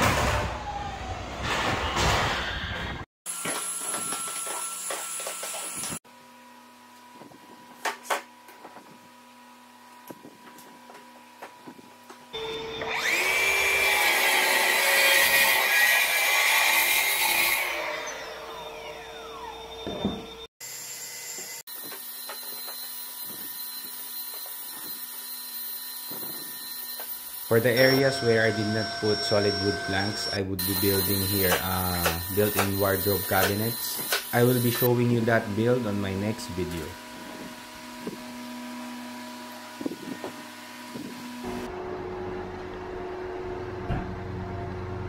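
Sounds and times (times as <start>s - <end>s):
shop vacuum running: 3.3s - 16.1s, 16.8s - 45.0s
steady mechanical hum: 3.5s - 13.2s, 18.2s - 45.0s.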